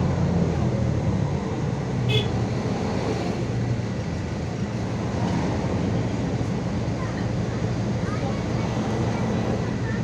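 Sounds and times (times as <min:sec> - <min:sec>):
bus engine drone: 0:00.0 - 0:10.0
road rumble: 0:00.0 - 0:10.0.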